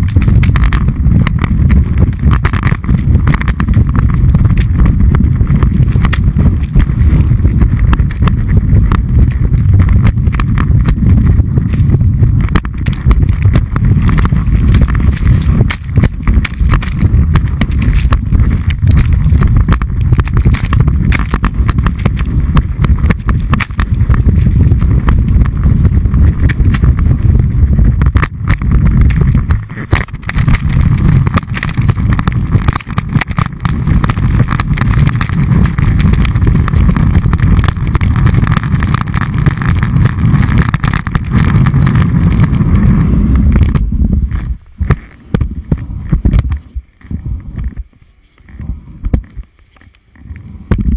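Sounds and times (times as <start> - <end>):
skis rumbling through snow: 0.0 - 50.9
skis scraping over snow: 0.0 - 50.9.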